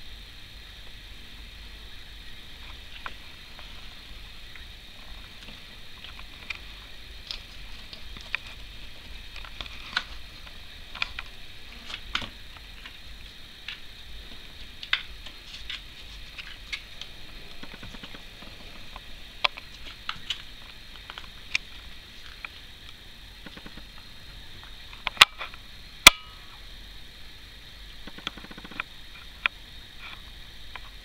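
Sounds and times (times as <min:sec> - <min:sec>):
faint high hiss: 0:00.0 - 0:31.0.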